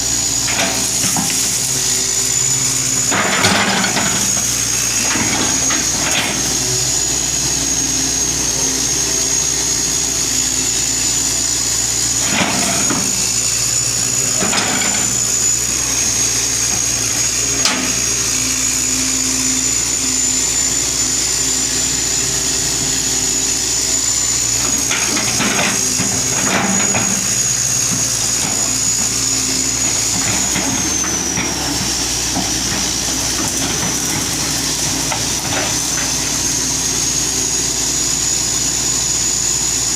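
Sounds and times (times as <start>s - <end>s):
excavator diesel engine running: 0.0s - 39.9s
high whine: 0.0s - 39.9s.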